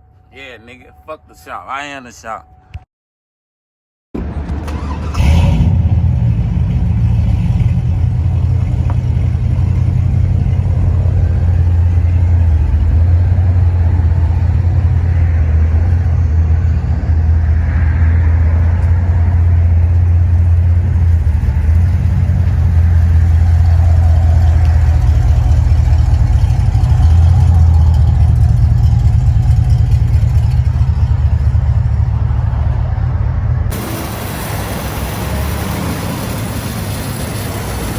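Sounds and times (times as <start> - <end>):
engine rumbling: 4.2 - 37.9.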